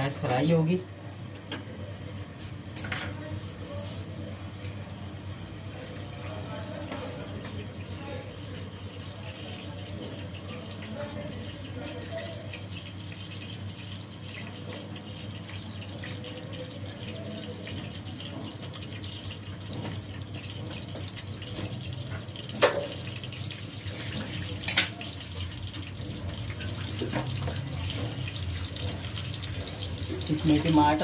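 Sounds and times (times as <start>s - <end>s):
water running into a steel sink: 5.4s - 31.0s.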